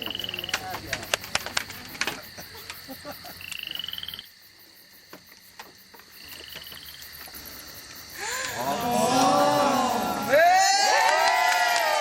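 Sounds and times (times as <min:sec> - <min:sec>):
croaking trills: 0:00.0 - 0:10.7.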